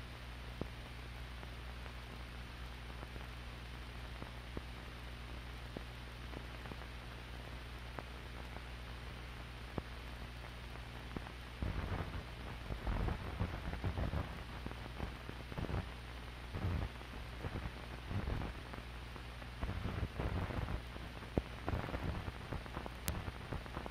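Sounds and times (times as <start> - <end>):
crackling rumble: 0.0 - 23.9
tape hiss: 0.0 - 23.9.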